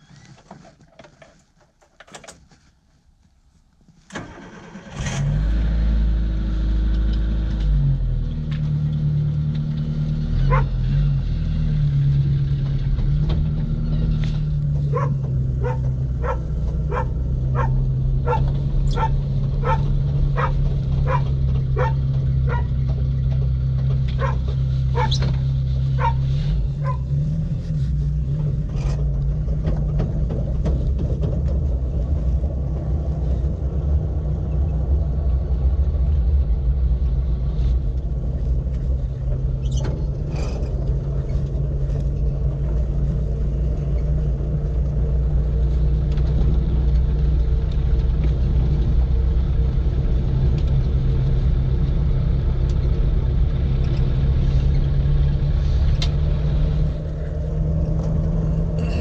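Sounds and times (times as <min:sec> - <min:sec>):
car engine starting and running: 0:04.1 - 0:59.0.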